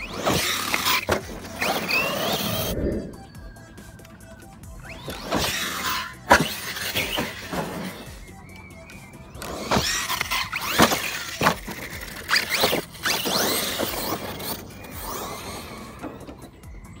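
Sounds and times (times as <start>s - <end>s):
tyres scrabbling over dirt: 0.0s - 2.7s, 4.9s - 16.7s
electric motor whining: 0.0s - 17.0s.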